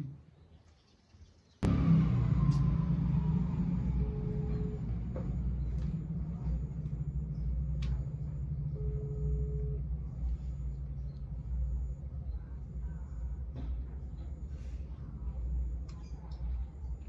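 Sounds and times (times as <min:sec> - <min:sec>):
low rumble: 0:01.6 - 0:17.0.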